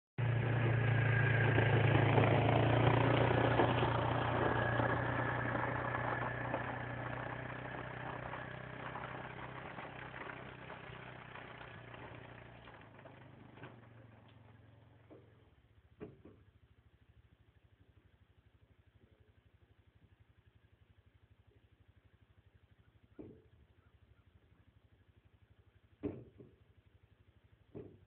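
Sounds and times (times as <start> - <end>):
quad bike engine running: 0.2 - 28.0.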